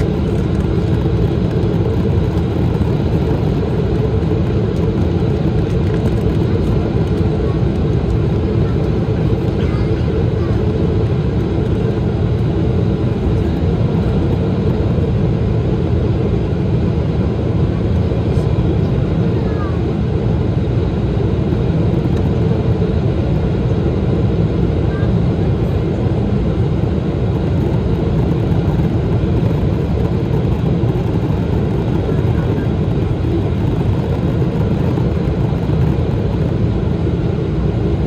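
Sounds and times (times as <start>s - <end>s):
airplane cabin roar: 0.0s - 38.0s.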